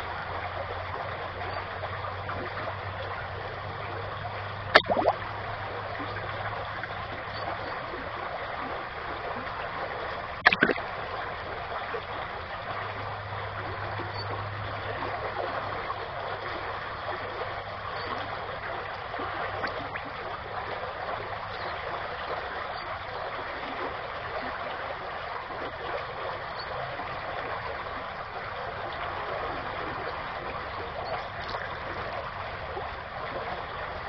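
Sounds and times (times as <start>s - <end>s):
creek water running: 0.0s - 34.0s.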